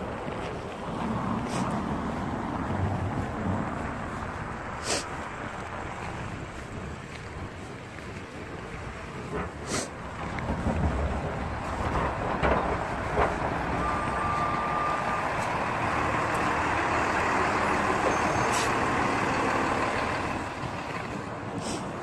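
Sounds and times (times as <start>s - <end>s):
snowplow truck passing: 0.0s - 22.0s.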